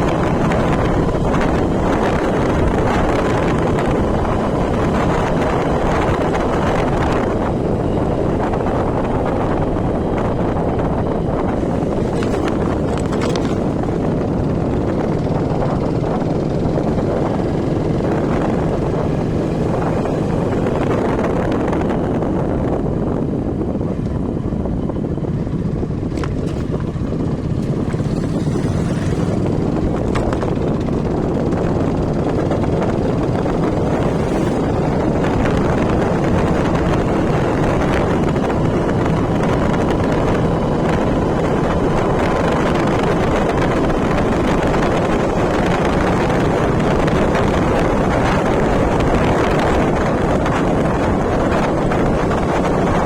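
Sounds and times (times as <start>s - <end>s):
moving vehicle drone: 0.0s - 53.0s
wind buffeting microphone: 0.0s - 53.0s.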